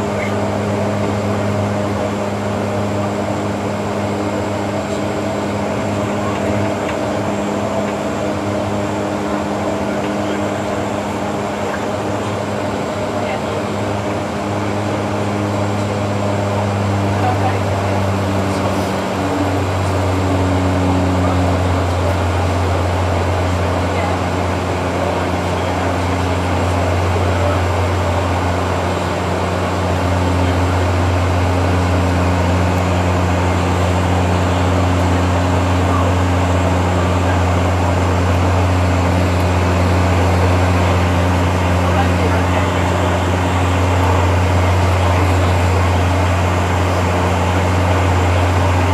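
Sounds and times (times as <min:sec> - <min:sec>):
airliner engine drone: 0:00.0 - 0:48.9.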